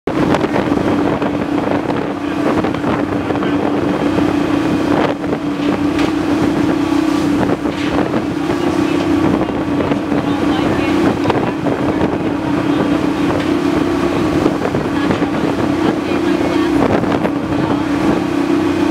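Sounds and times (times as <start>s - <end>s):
boat engine drone: 0.1s - 18.9s
waves splashing against boat hull: 0.1s - 18.9s
wind buffeting microphone: 0.1s - 18.9s.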